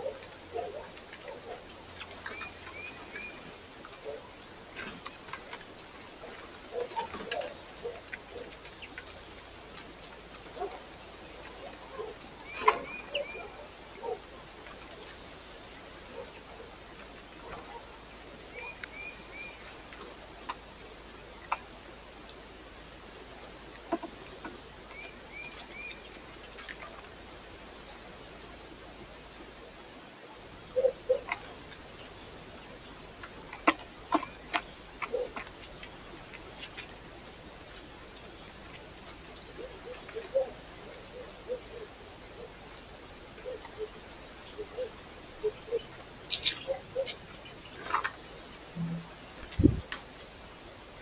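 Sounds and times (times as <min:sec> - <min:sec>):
birds pecking and tapping: 0:00.0 - 0:27.5, 0:30.5 - 0:41.4, 0:42.1 - 0:48.5
microphone hiss: 0:00.0 - 0:51.0.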